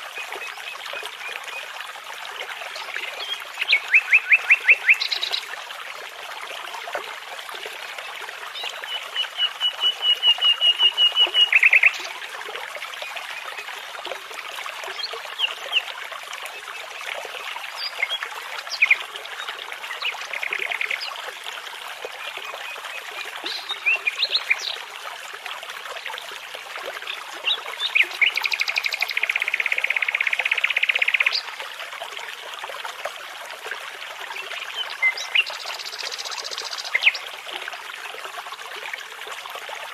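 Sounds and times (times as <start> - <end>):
babbling brook: 0.0 - 39.9.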